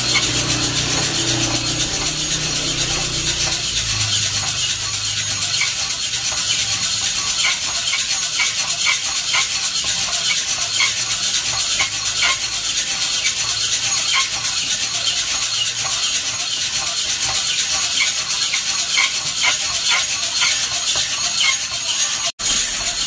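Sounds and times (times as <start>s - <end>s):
coffee beans rattling in drum roaster: 0.0s - 23.0s.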